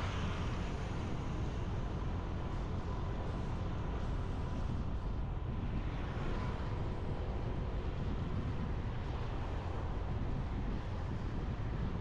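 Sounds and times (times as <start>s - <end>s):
wind rushing on microphone: 0.0s - 12.0s.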